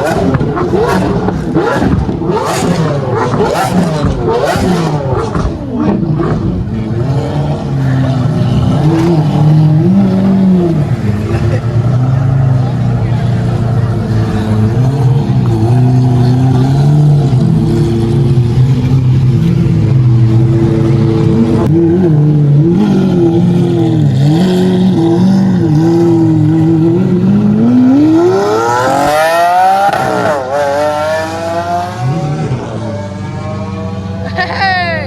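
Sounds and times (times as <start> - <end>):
car engine revving: 0.0 - 34.7.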